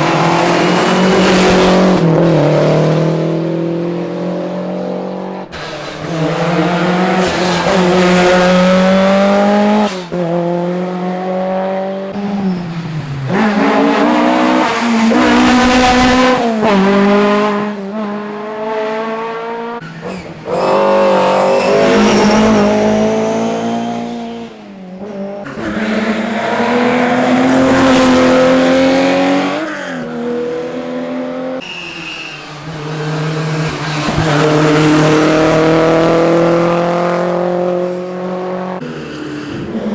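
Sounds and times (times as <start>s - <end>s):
rally cars at full throttle: 0.0s - 39.9s.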